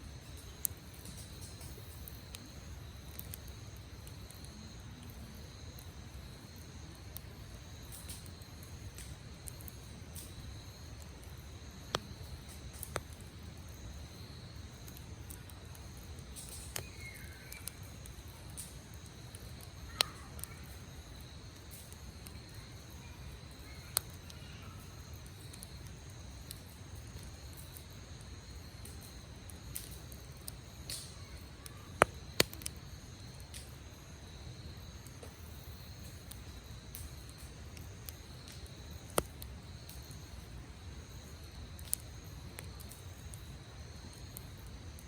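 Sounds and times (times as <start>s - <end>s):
campfire crackling and popping: 0.0s - 45.0s
insects trilling: 0.0s - 45.0s.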